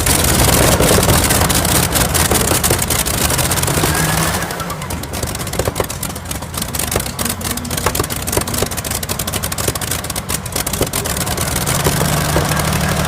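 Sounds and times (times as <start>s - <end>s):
rapid crackling pops: 0.0s - 13.0s
tractor engine running hard: 0.0s - 13.0s.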